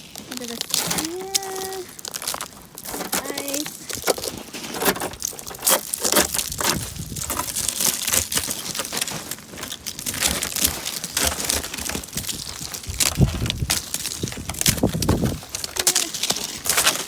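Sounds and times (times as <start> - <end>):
ice scraper crunching ice: 0.2 - 17.0.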